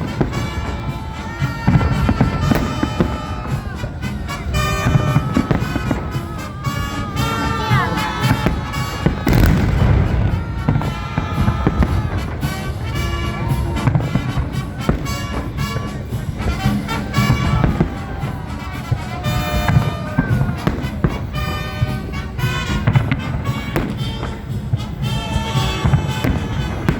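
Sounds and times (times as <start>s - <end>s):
fireworks salute bangs: 0.0s - 26.9s
music with brass instruments: 0.0s - 26.9s.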